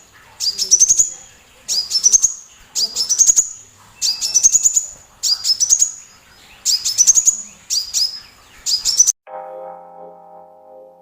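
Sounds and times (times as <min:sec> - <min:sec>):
bird singing high chirps: 0:00.0 - 0:09.2.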